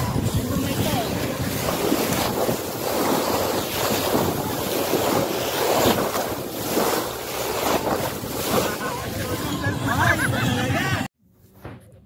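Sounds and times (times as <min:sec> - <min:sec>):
wind buffeting microphone: 0:00.0 - 0:10.1
water rushing along boat hull: 0:00.0 - 0:11.0.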